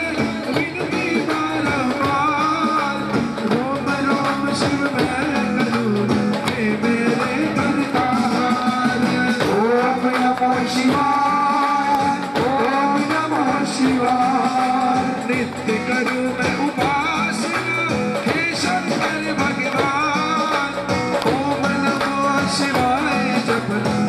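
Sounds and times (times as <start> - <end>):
instrumental accompaniment: 0.0 - 24.0
man singing through microphone: 0.0 - 24.0.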